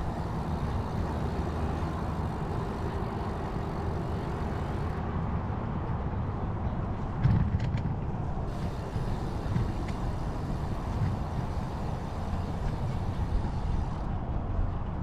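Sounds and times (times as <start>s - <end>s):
bicycle tyre and road noise: 0.0s - 15.0s
wind buffeting microphone: 0.0s - 15.0s.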